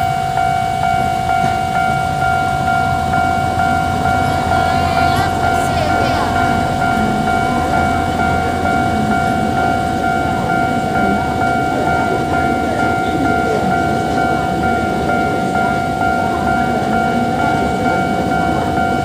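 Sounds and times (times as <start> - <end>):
railroad crossing signal ringing: 0.0 - 19.0
train rumbling over crossing: 0.0 - 19.0.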